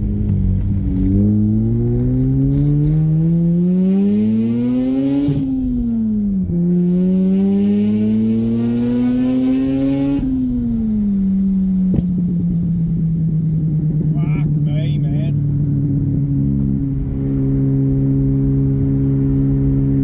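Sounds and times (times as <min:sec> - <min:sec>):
rotary engine accelerating: 0:00.0 - 0:20.0.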